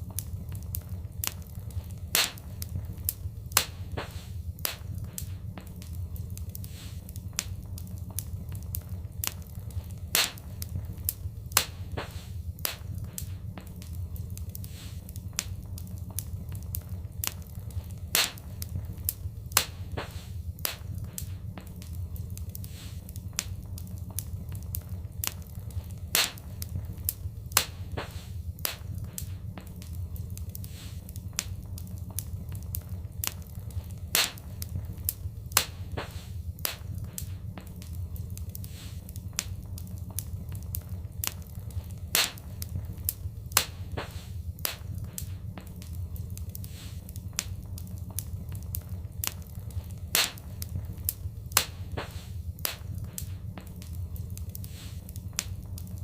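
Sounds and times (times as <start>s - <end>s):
low rumble of flames: 0.0s - 56.0s
wood fire popping and snapping: 0.0s - 56.0s.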